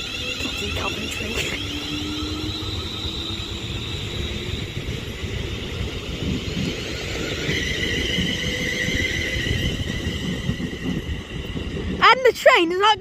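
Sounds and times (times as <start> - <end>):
electric train whine: 0.0 - 13.0
low train rumble: 0.0 - 13.0.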